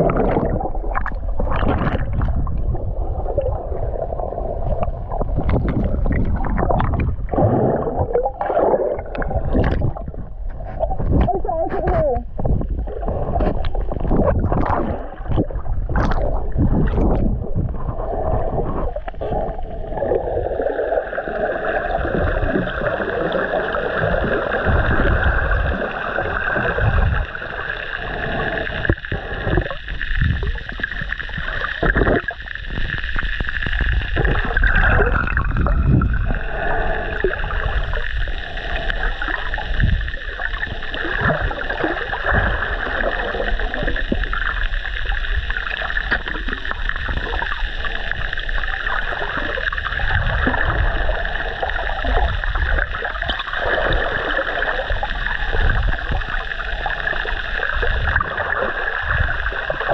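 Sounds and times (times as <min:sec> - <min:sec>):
muffled bumps underwater: 0:00.0 - 0:59.9
water sloshing underwater: 0:00.0 - 0:59.9.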